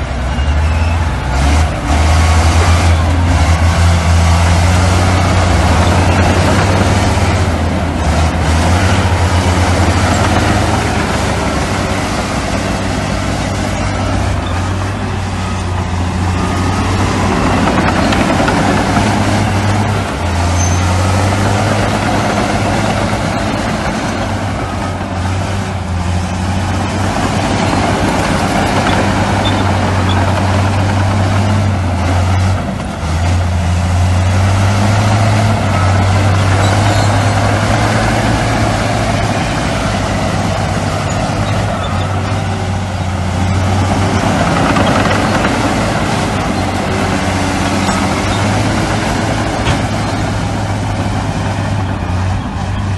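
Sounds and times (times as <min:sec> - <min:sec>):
heavy diesel machinery engine drone: 0:00.0 - 0:52.9.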